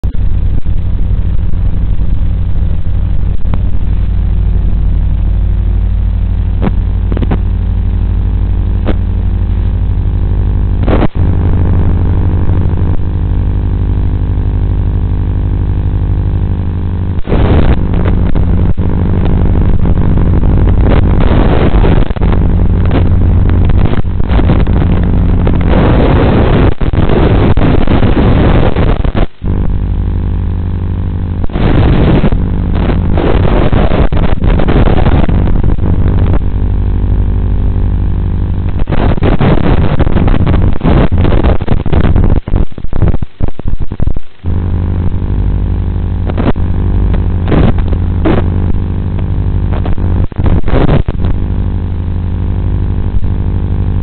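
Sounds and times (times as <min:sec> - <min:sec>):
static bursts: 0:00.0 - 0:54.0
video receiver hum and tones: 0:00.0 - 0:54.0.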